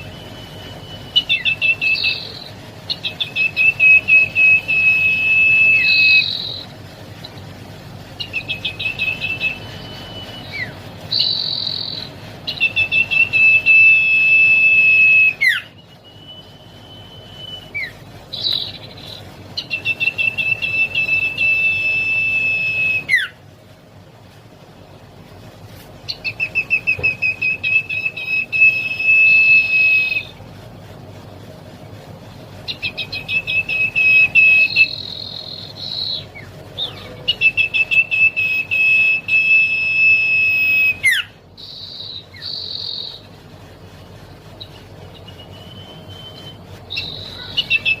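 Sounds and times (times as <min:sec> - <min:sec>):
bird singing whistled phrases: 0:00.0 - 0:07.4, 0:08.2 - 0:23.4, 0:26.1 - 0:30.4, 0:32.6 - 0:43.3, 0:44.6 - 0:48.0.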